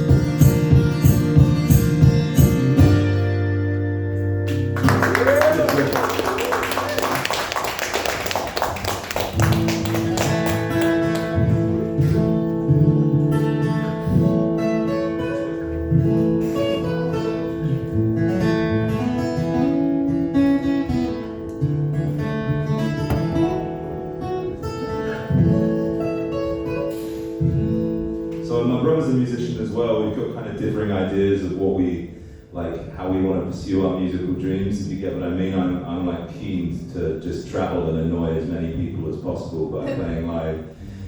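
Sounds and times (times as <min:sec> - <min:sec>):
acoustic guitar: 0:00.0 - 0:41.0.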